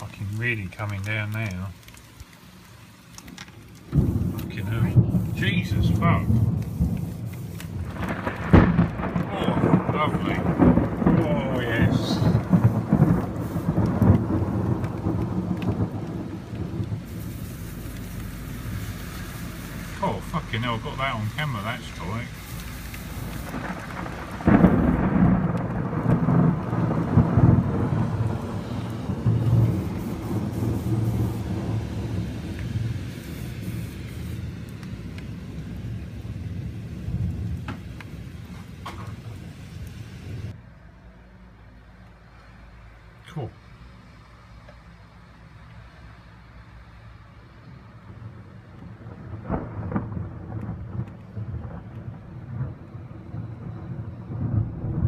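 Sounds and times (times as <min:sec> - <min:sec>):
thunder rumbling: 0:00.0 - 0:40.6, 0:48.0 - 0:55.0
heavy rain: 0:00.0 - 0:41.2, 0:41.8 - 0:55.0.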